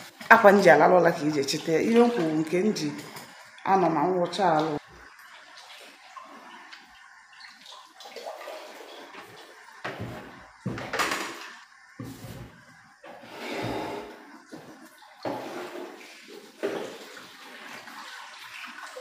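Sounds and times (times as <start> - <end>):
water splashing in buckets: 0.0 - 19.0.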